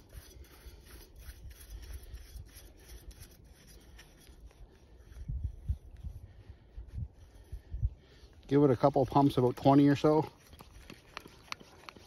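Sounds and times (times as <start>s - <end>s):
threads rubbing and scraping: 0.0s - 12.0s.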